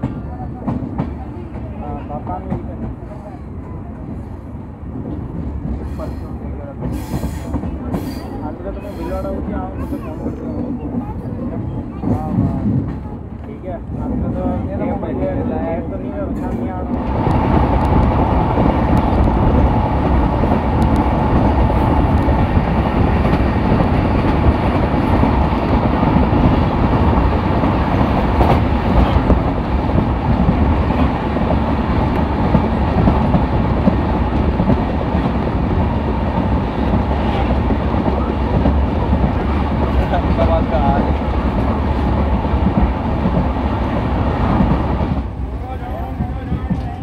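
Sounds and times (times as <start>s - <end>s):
train wheels rumbling and clattering: 0.0s - 47.0s.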